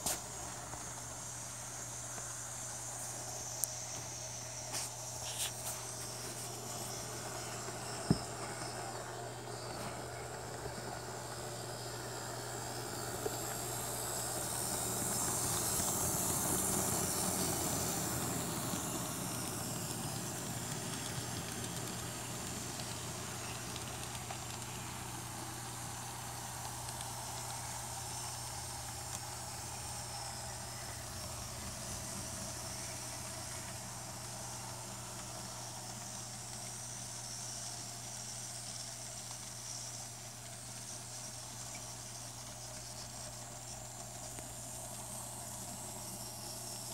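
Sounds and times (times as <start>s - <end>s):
model train whirring and rolling: 0.0s - 46.9s.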